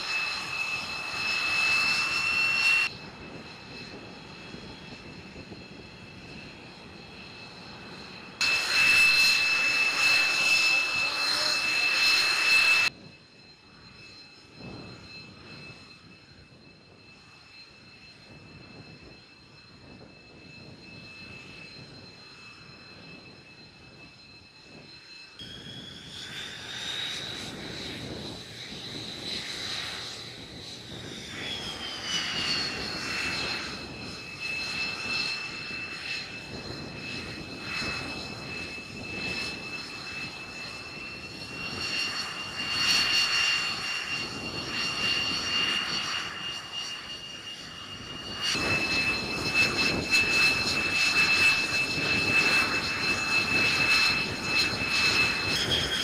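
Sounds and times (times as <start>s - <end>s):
jet engine roar: 0.0s - 56.0s
jet turbine whine: 0.0s - 56.0s.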